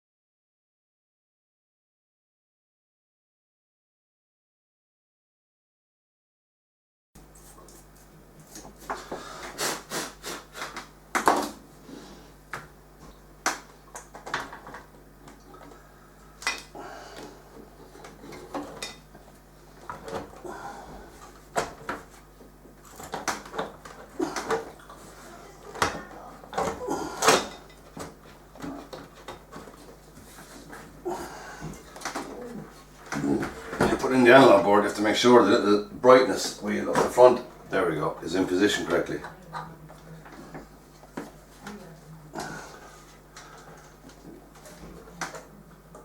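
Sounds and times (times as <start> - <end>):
faint steady hum: 7.2 - 46.0.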